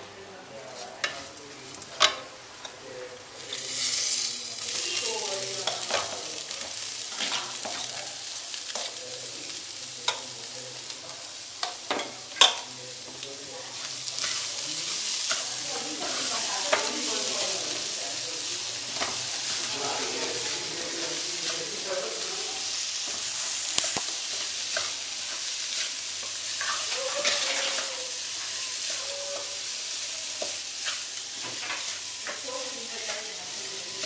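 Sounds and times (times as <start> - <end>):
frying sizzle: 0.0 - 34.0.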